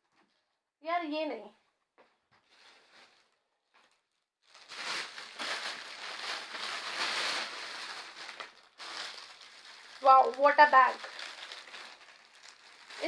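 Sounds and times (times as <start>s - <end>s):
plastic wrapping crinkling: 2.0s - 13.0s.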